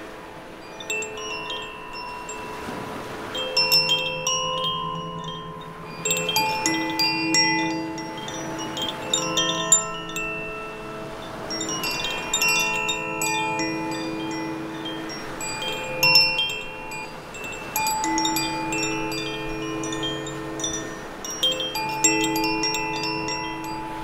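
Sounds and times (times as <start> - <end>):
waves on rocks: 0.0 - 24.0
wind chime ringing: 0.3 - 24.0.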